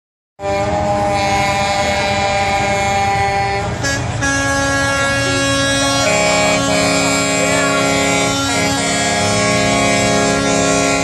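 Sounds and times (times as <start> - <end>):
truck air horns blowing: 0.4 - 11.0.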